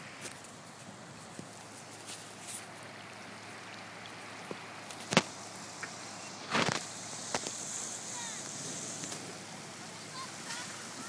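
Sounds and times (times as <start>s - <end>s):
floodwater running: 0.0s - 11.0s.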